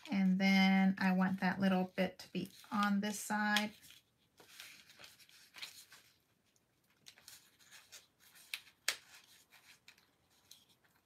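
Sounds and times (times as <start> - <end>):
paper rustling and creasing: 1.7 - 11.0
crisp paper crackles: 1.8 - 11.0.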